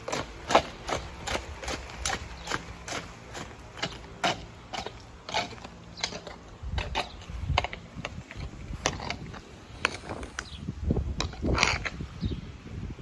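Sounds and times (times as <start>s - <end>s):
hooves crunching on gravel: 0.0s - 10.4s.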